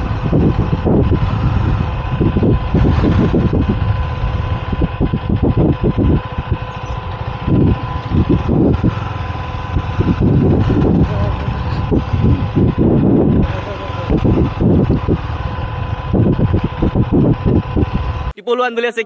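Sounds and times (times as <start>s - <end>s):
motorcycle engine running low speed: 0.0s - 18.3s.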